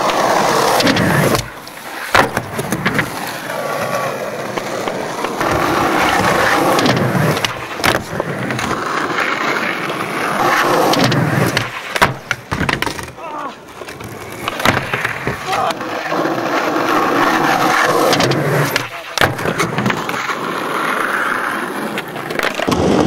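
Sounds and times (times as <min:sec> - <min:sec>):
skateboard clacking on ground: 0:00.0 - 0:23.0
skateboard wheels rolling on concrete: 0:00.0 - 0:23.0.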